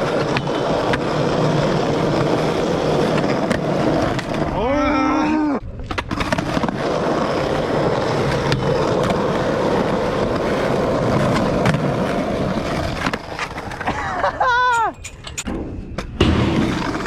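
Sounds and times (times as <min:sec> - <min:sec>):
skateboard clacks: 0:00.0 - 0:04.6, 0:05.8 - 0:14.9
skateboard wheels rolling: 0:00.0 - 0:15.0, 0:15.6 - 0:17.0.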